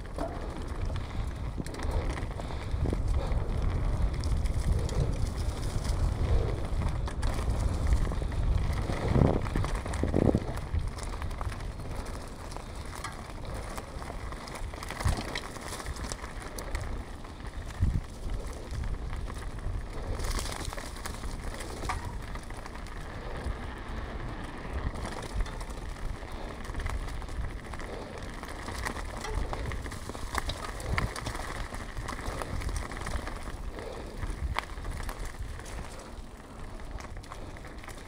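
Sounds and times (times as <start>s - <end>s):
wind on microphone: 0.0s - 36.2s
bike rattling: 0.0s - 38.0s
bike tyres on rough surface: 0.0s - 38.0s.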